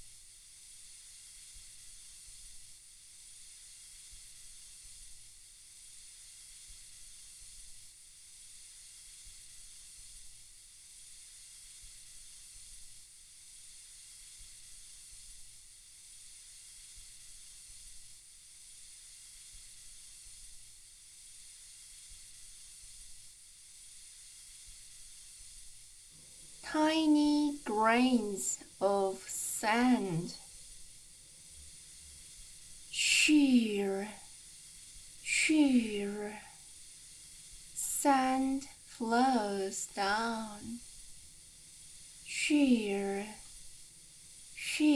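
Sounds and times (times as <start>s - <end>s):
white noise hiss: 0.0s - 44.9s.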